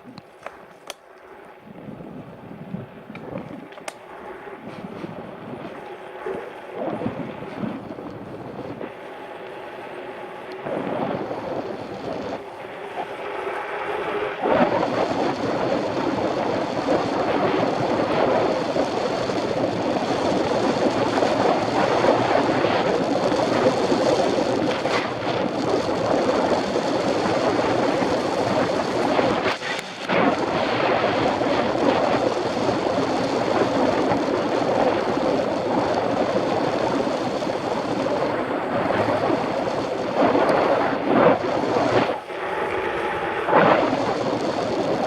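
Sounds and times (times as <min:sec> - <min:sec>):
bike rolling noise: 0:00.0 - 0:45.0
wind rushing on microphone: 0:01.6 - 0:45.0.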